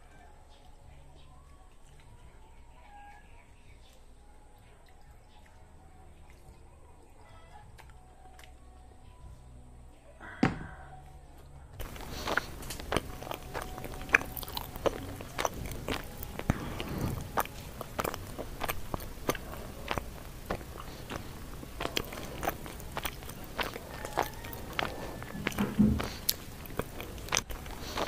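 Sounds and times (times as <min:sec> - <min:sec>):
chewing and crunching: 0:00.0 - 0:09.3, 0:11.8 - 0:28.0.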